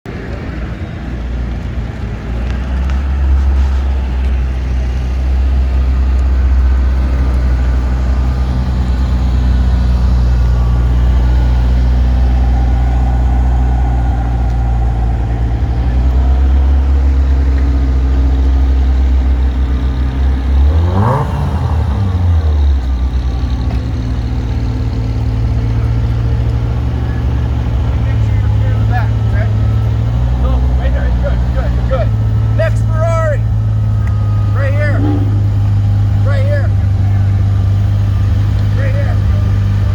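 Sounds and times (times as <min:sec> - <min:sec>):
car engine running: 0:00.0 - 0:39.9
car engine revving: 0:00.1 - 0:39.9.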